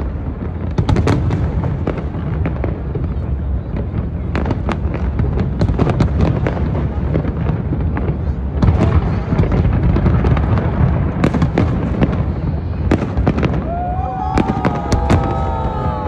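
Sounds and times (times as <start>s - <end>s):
fireworks crackling bangs: 0.0s - 16.0s.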